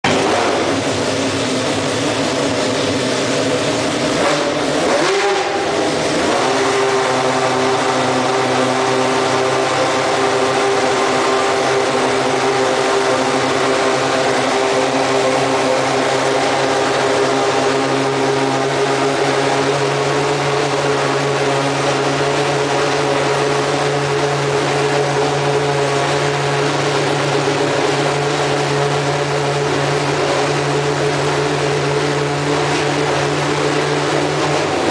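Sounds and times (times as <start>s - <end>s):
racing car engine idling: 0.0s - 34.9s.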